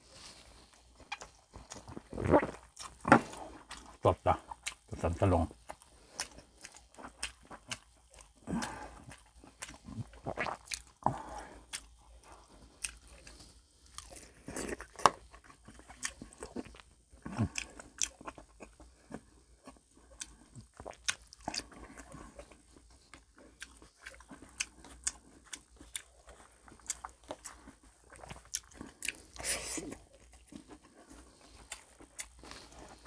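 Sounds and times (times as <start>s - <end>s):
crunchy chewing of fried food: 0.0s - 33.0s.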